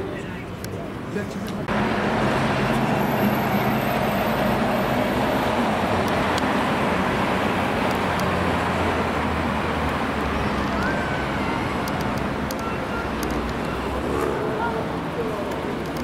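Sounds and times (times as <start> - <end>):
street noise: 0.0 - 16.0.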